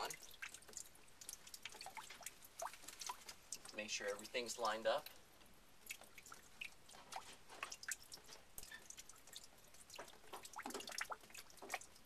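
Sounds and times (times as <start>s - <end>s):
faint water drips: 0.0s - 12.0s.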